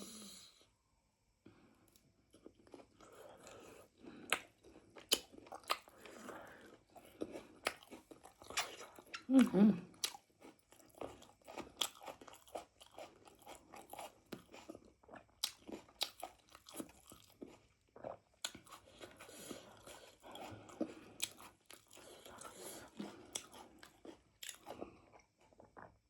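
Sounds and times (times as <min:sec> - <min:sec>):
person chewing food: 0:01.8 - 0:26.0.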